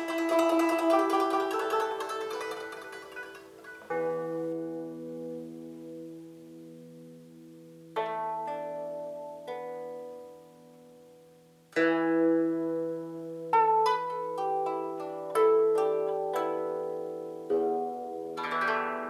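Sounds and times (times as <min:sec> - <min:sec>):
plucked zither notes and chords: 0:00.0 - 0:19.0.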